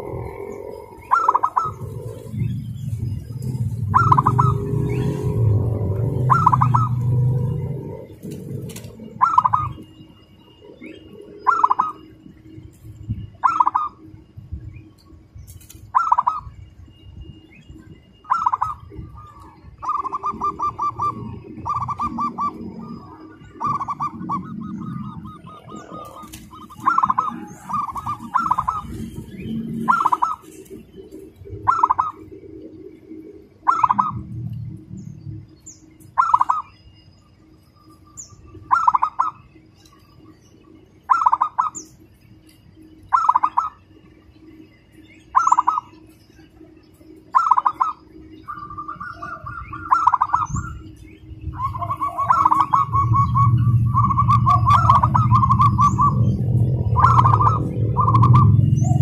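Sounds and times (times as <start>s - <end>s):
dove cooing trills: 0.0s - 59.0s.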